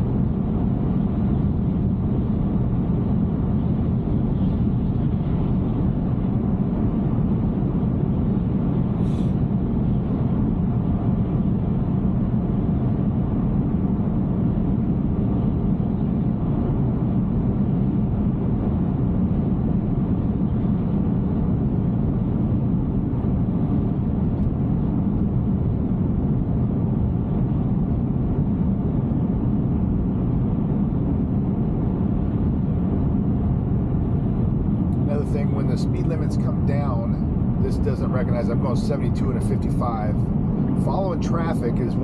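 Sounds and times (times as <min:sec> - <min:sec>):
road and tyre noise: 0:00.0 - 0:42.0.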